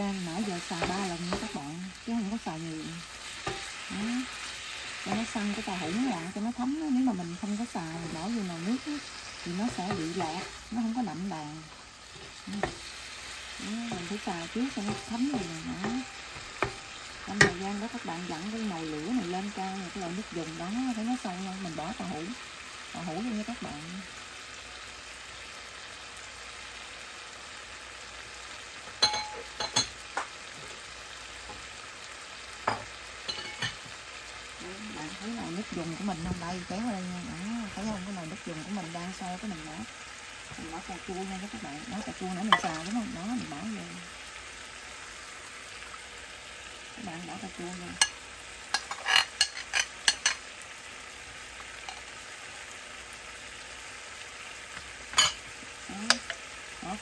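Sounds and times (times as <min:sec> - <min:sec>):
tofu sizzling in a frying pan: 0:00.0 - 0:57.0.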